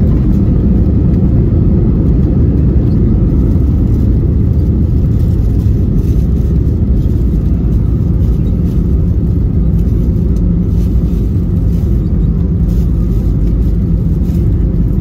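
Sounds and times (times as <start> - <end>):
airliner cabin low rumble: 0.0 - 15.0.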